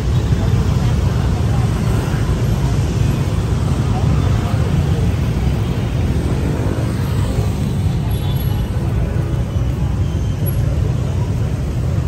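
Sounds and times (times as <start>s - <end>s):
motorbike traffic passing: 0.0s - 12.0s.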